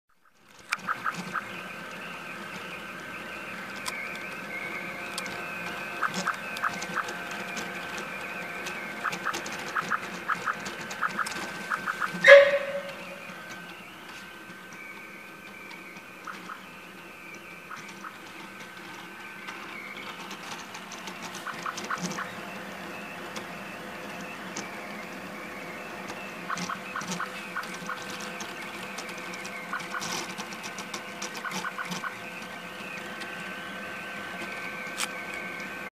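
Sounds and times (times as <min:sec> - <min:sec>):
printer motor and fan whine: 0:00.3 - 0:35.9
print head ticks: 0:00.5 - 0:35.8.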